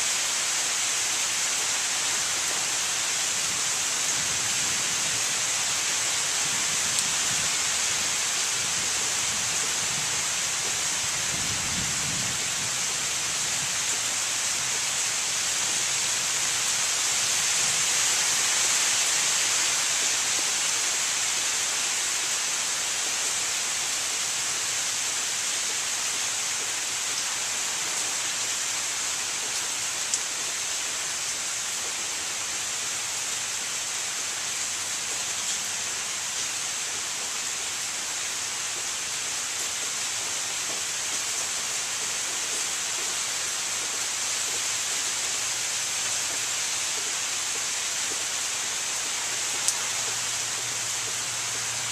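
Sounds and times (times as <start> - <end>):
rain falling on foliage: 0.0 - 51.9.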